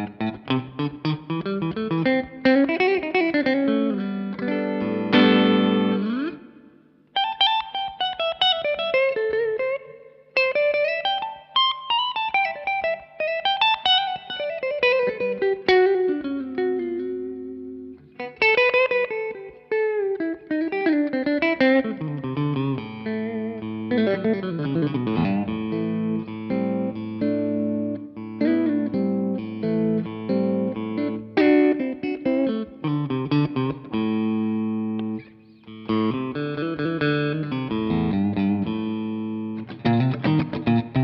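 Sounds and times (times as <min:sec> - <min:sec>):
clean electric guitar with reverb: 0:00.0 - 0:41.0.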